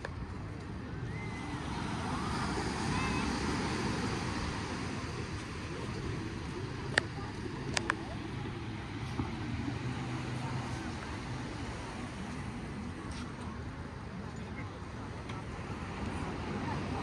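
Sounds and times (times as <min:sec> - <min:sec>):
faint distant voices: 0:00.0 - 0:17.0
traffic rumble: 0:00.0 - 0:17.0
wind: 0:00.0 - 0:17.0.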